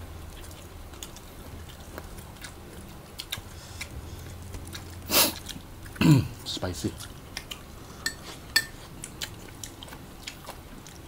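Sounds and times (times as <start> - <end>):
chewing and mouth clicks: 0.0 - 11.0
low steady hum: 0.0 - 11.0.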